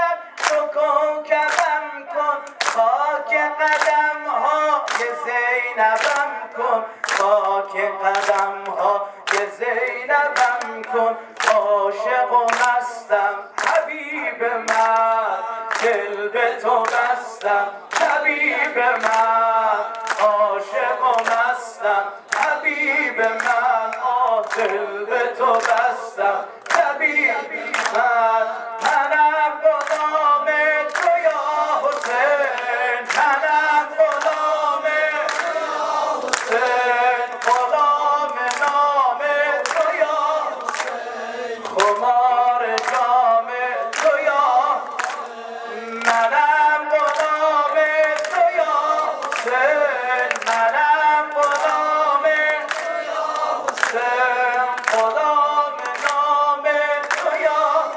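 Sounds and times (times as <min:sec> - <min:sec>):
crowd singing along: 0:00.0 - 0:57.9
man singing into a microphone: 0:00.0 - 0:57.9
hand claps: 0:00.4 - 0:03.0, 0:03.6 - 0:06.4, 0:07.0 - 0:11.8, 0:12.4 - 0:14.0, 0:14.6 - 0:28.1, 0:28.8 - 0:42.1, 0:42.7 - 0:57.9.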